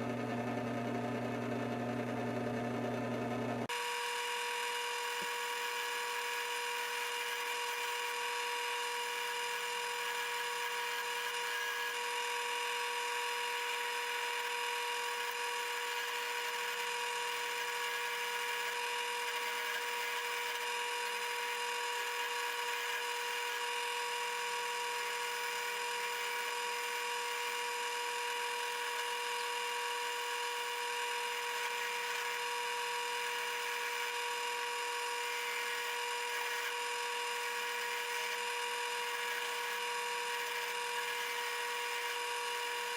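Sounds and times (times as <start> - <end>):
small electric motor whine: 0.0 - 42.9.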